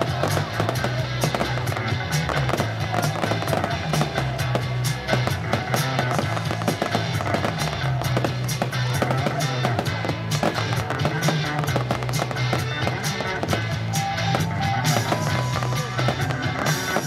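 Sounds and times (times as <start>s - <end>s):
fireworks crackling and popping: 0.0s - 17.0s
music playing: 0.0s - 17.0s.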